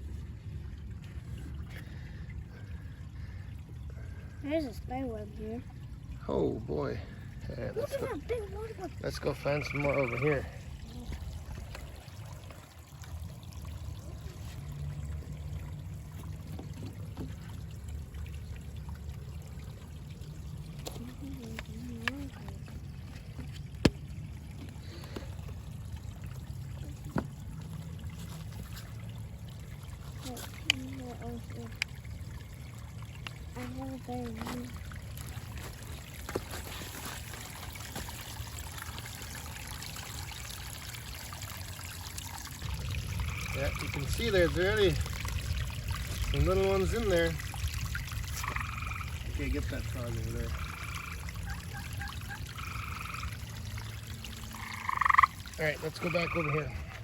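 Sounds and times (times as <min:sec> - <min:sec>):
water trickling in a stream: 0:00.0 - 0:57.0.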